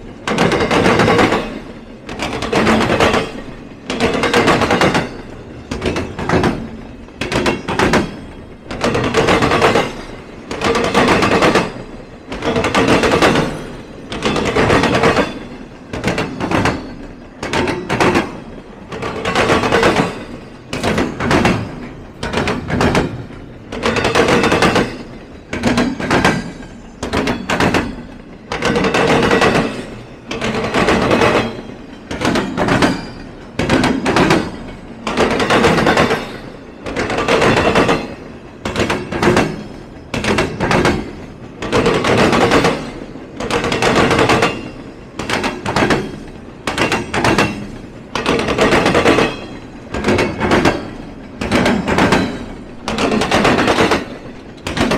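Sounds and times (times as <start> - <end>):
train wheels clattering: 0.0 - 54.9.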